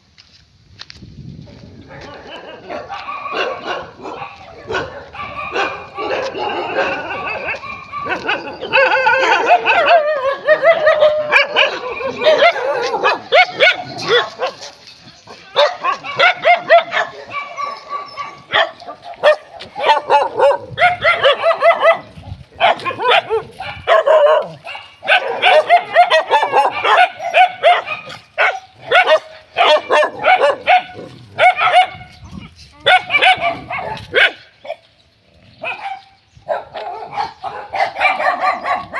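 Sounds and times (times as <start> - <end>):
dogs barking and yelping: 1.8 - 38.9.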